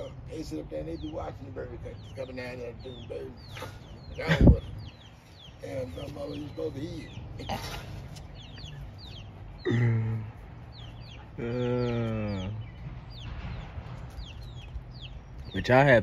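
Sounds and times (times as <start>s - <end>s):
baby chicks peeping: 0.0s - 16.0s
low drawn-out hums: 0.0s - 16.0s.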